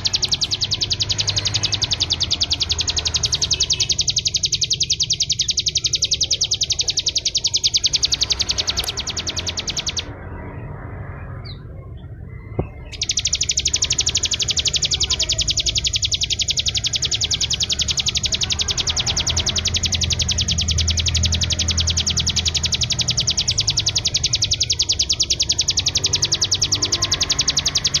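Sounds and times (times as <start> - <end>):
bird rattling trill: 0.0 - 10.1, 12.9 - 28.0.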